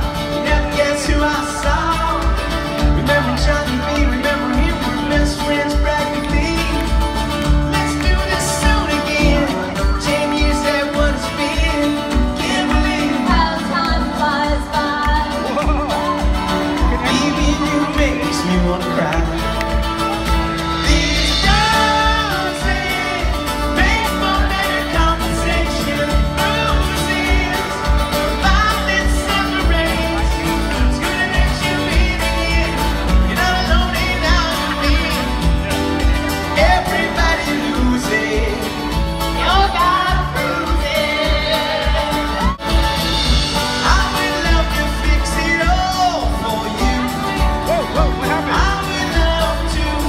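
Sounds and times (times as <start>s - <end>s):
lead vocal singing: 0.0s - 50.0s
live pop-rock band: 0.0s - 50.0s.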